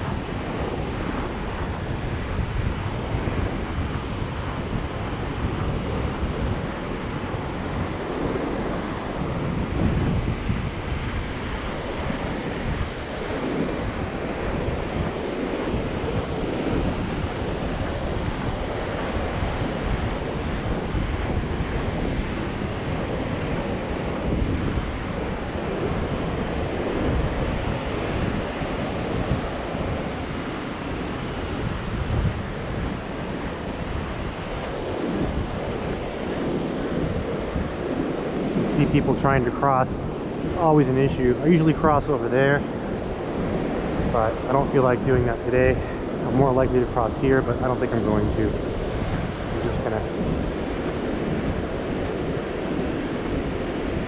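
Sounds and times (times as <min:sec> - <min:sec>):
surf washing onto beach: 0:00.0 - 0:54.0
wind buffeting microphone: 0:00.0 - 0:54.0.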